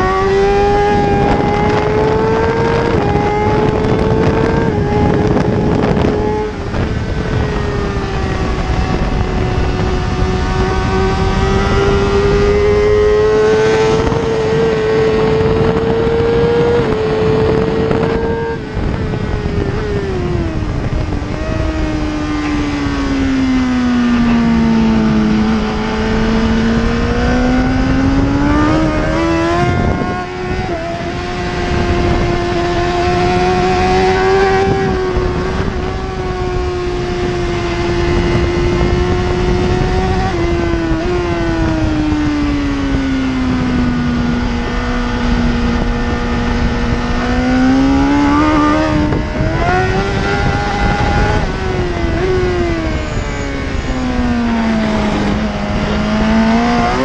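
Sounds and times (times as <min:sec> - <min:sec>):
motorcycle engine at racing speed: 0:00.0 - 0:57.0
wind rushing: 0:00.0 - 0:57.0.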